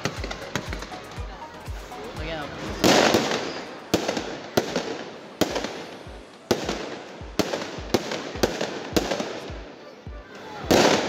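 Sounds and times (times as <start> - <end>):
fireworks bangs: 0.0 - 1.2, 2.2 - 11.0.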